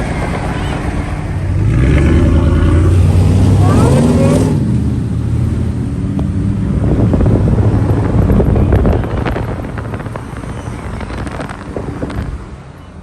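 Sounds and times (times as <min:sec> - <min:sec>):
car engine: 0:00.0 - 0:13.0.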